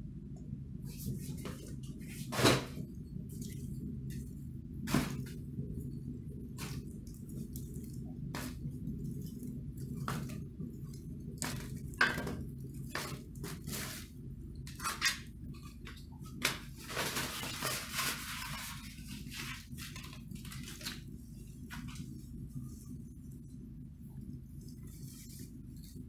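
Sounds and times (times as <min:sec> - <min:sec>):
steady low hum: 0:00.0 - 0:26.0
paper burning and crackling: 0:01.8 - 0:23.2.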